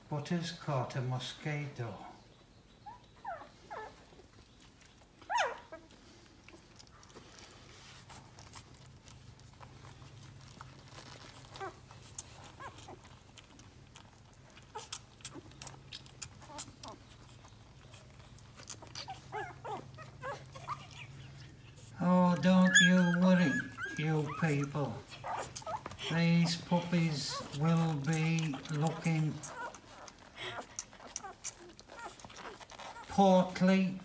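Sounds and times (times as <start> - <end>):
puppies squeaking: 2.0 - 33.6.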